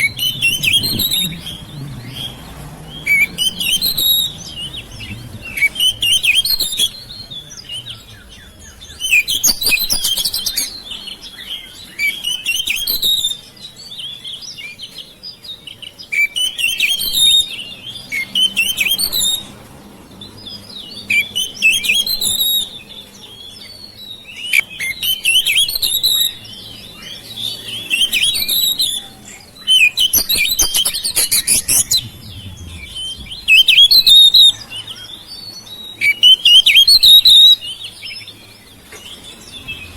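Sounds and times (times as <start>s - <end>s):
bird whistling and chirping: 0.0s - 19.6s, 20.7s - 39.9s.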